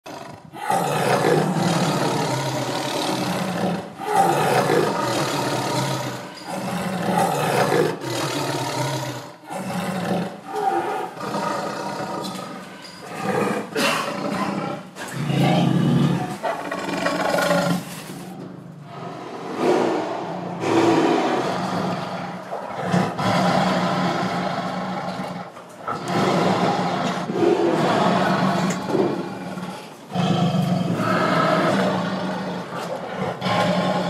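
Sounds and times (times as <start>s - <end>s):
animal roars and growls: 0.0s - 34.0s.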